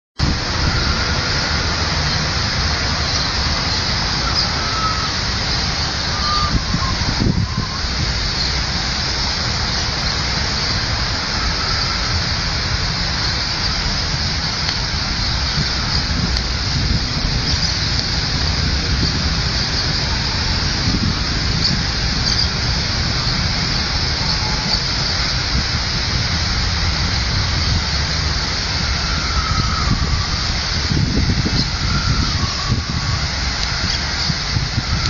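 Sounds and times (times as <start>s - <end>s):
fountain water splashing: 0.2s - 35.0s
low uneven rumble: 0.2s - 35.0s.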